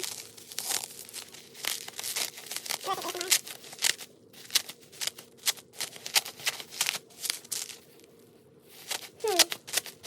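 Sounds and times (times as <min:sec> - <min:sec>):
paper and plastic rustling: 0:00.0 - 0:10.0.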